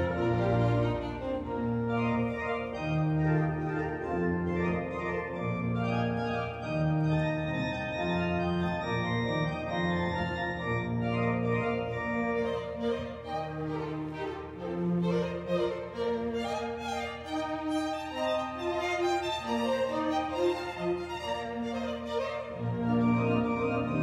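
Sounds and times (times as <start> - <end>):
organ playing slow chords: 0.0 - 16.6, 17.3 - 24.0.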